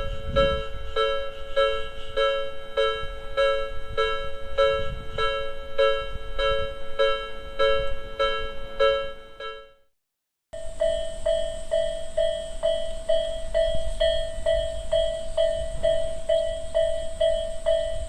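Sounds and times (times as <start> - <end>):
level-crossing electronic bell: 0.0 - 9.9, 10.6 - 18.0.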